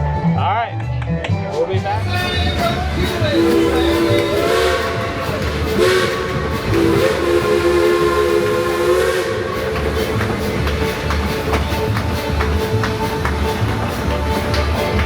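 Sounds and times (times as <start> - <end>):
low pulsing beat: 1.2 - 15.0
live band held chords: 1.4 - 15.0.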